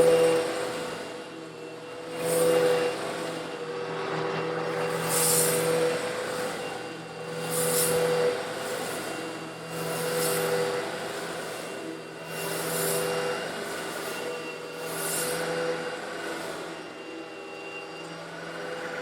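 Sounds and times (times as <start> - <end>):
vacuum cleaner motor running: 0.0 - 19.0.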